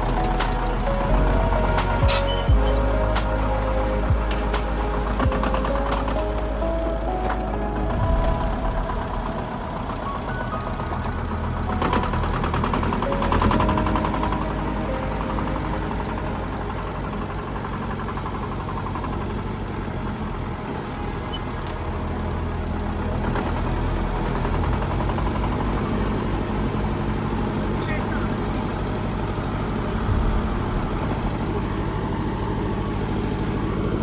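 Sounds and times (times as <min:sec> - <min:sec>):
heavy machinery diesel engine: 0:00.0 - 0:34.0.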